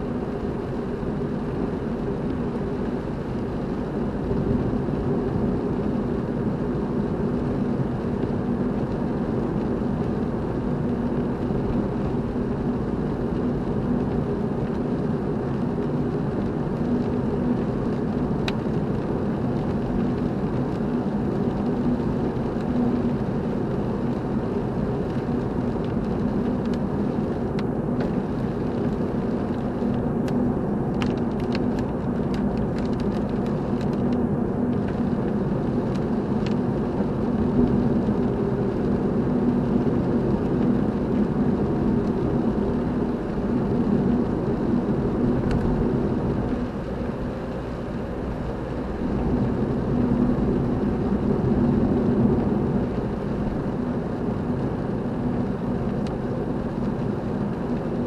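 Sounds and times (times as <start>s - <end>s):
car engine and tyre hum: 0.0s - 58.0s.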